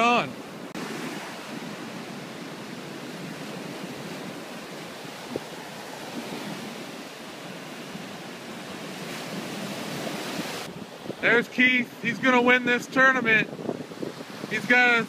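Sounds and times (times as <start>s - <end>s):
ocean waves breaking on beach: 0.0s - 15.0s
wind on microphone: 0.5s - 11.4s, 12.1s - 15.0s.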